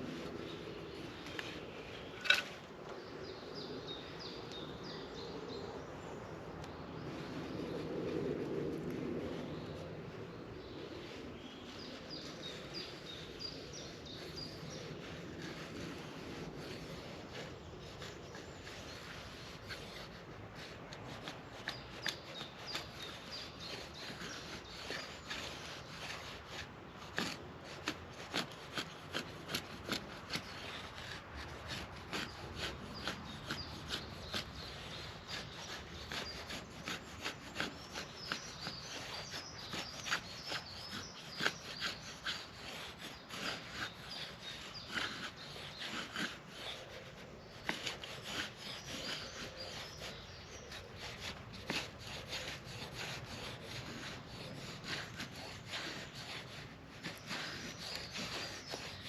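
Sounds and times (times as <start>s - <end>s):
knife shaving wood: 0.0s - 4.8s, 6.5s - 59.0s.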